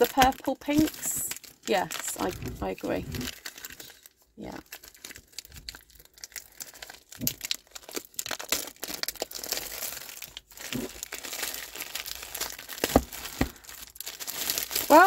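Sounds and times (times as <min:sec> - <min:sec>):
cellophane crinkling: 0:00.0 - 0:15.0.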